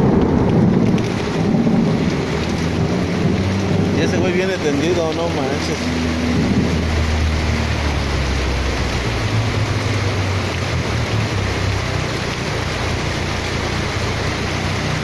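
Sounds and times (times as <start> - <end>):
heavy rain: 0.0 - 15.0
rushing floodwater: 0.0 - 15.0
vehicle engine hum: 0.0 - 15.0.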